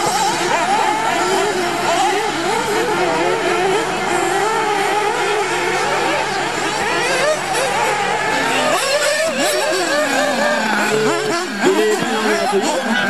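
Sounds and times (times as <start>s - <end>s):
rc car engines revving: 0.0s - 13.0s.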